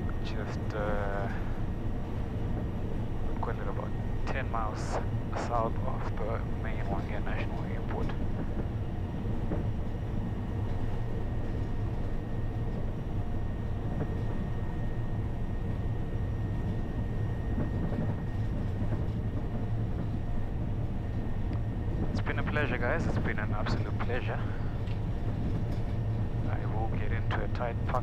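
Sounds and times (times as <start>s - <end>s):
turboprop engine running: 0.0s - 28.0s.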